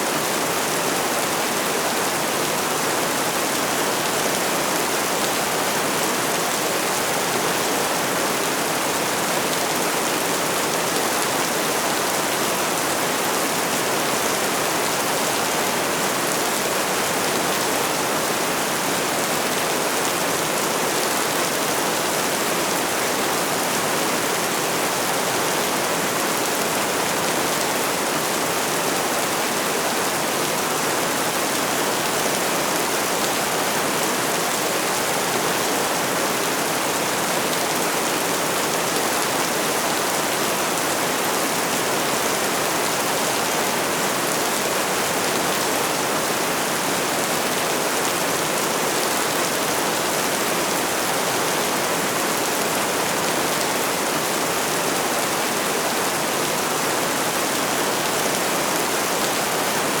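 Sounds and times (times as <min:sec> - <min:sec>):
steady rainfall: 0:00.0 - 1:00.0.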